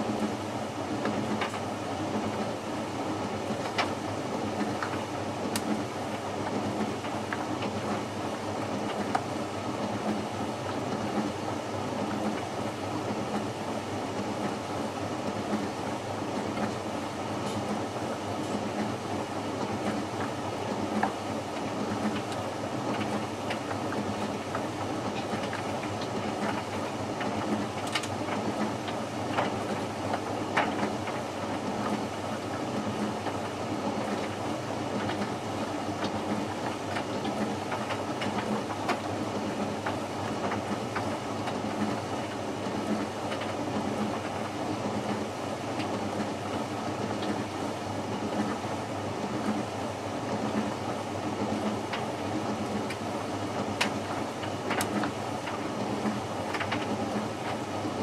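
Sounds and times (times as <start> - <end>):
tumble dryer motor and fan: 0.0 - 58.0.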